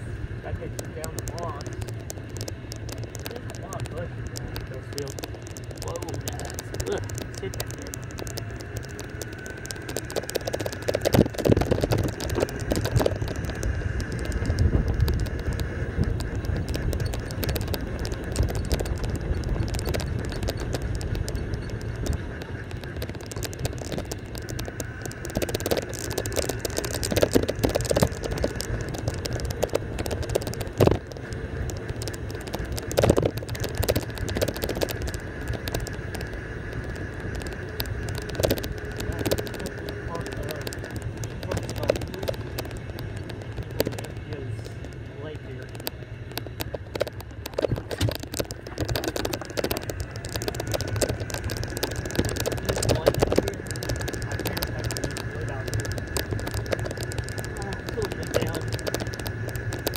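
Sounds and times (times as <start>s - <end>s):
cart rattling over bumps: 0.0s - 59.9s
golf cart running rumble: 0.0s - 59.9s.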